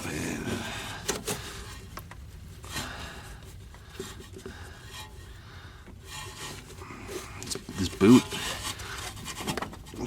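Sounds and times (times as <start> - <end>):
rubber boot rubbing and scraping: 0.0 - 10.0.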